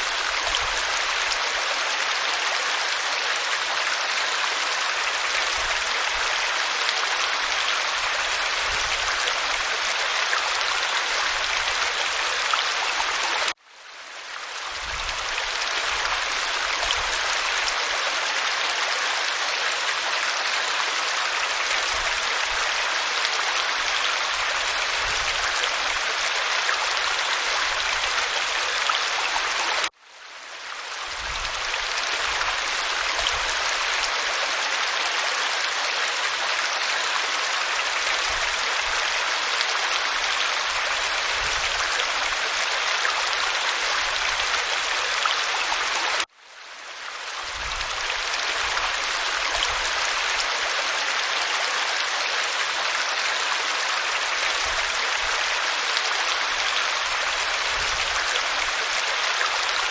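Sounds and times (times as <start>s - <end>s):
waterfall rushing over rock: 0.0s - 13.6s, 14.4s - 29.9s, 30.9s - 46.3s, 47.3s - 59.9s.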